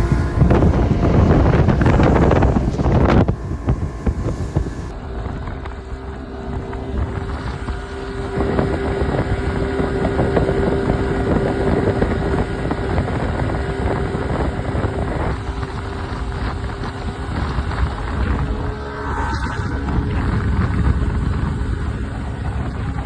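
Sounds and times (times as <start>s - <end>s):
outboard motor running: 0.0s - 23.0s
wind buffeting microphone: 0.0s - 23.0s.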